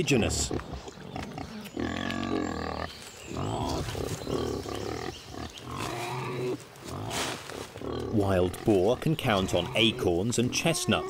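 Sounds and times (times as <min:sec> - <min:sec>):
wild boars grunting: 0:00.0 - 0:11.0.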